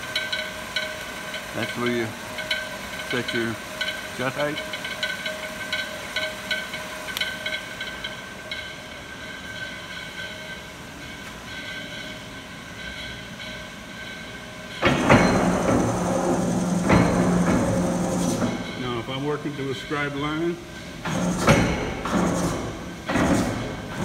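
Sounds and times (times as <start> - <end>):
press machine whirring and ticking: 0.0 - 24.0.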